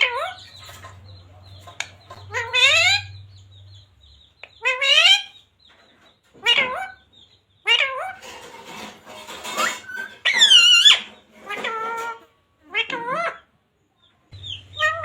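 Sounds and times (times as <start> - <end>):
parrot calling: 0.0 - 5.5, 6.4 - 8.5, 9.3 - 13.5, 14.4 - 15.0.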